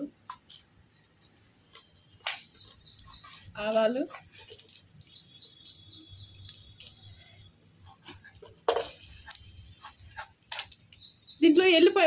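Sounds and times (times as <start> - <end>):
seeds popping in oil: 0.2 - 7.2, 8.0 - 12.0.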